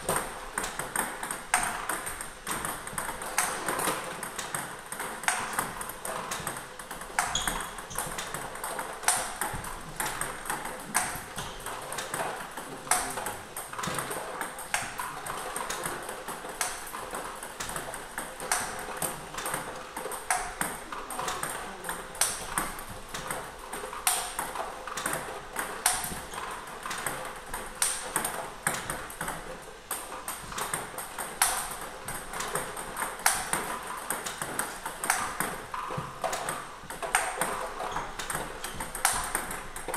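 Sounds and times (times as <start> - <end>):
ping pong balls clicking: 0.0 - 39.9.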